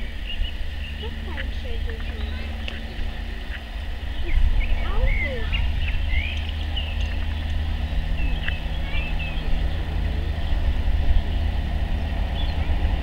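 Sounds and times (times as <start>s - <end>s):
birds chirping: 0.0s - 13.0s
low vehicle rumble with hum: 0.0s - 13.0s.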